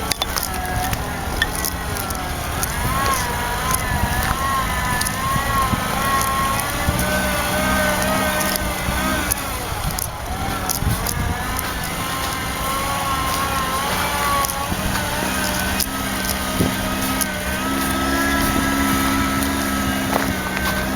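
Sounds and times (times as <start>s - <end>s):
engine running under load: 0.0s - 20.9s.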